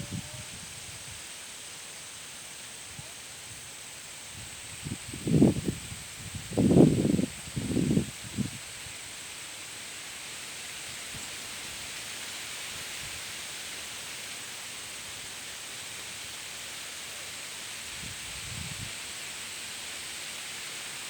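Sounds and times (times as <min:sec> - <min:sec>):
white noise hiss: 0:00.0 - 0:21.0.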